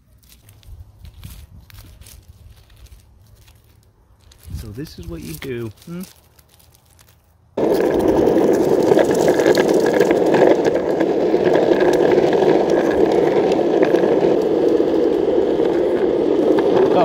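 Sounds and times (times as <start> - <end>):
wheels rolling on asphalt: 0.0 - 17.0.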